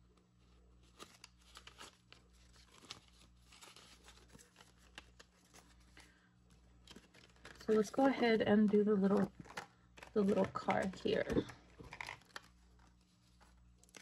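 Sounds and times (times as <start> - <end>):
banknotes rustling: 0.5 - 14.0.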